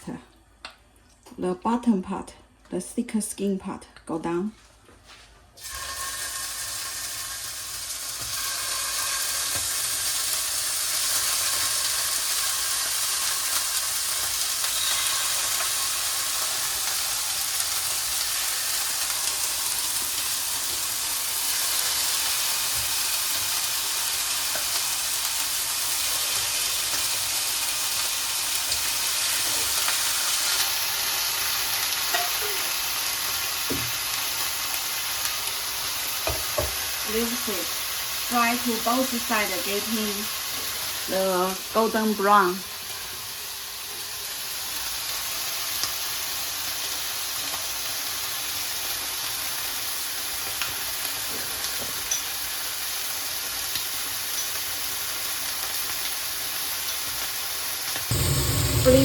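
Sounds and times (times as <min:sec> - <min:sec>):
chicken frying in oil: 0:05.6 - 0:59.0.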